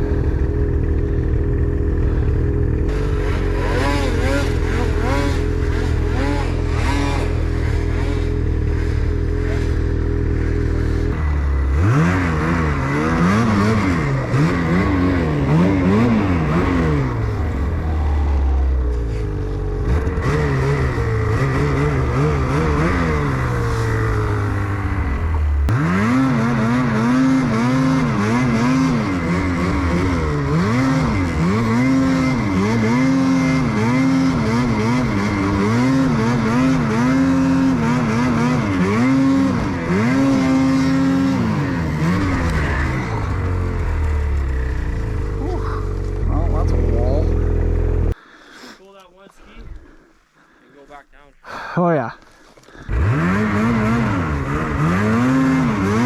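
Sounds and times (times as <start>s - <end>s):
snowmobile engine revving: 0.0s - 48.2s, 52.6s - 56.0s.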